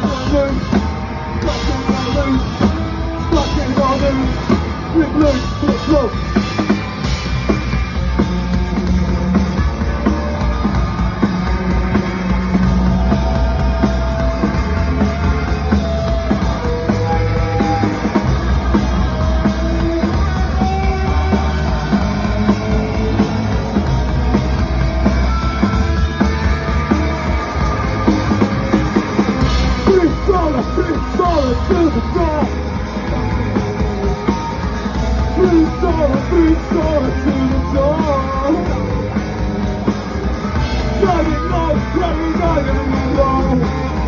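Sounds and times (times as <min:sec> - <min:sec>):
drum kit pounding: 0:00.0 - 0:44.0
live rock band playing: 0:00.0 - 0:44.0.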